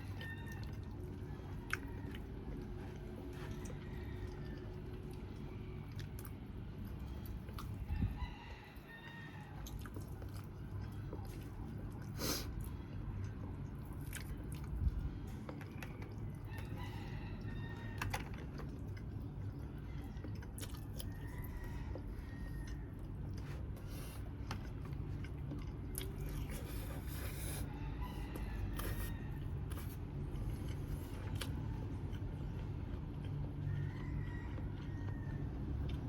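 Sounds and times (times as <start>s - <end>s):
chewing and biting food: 0.0s - 36.0s.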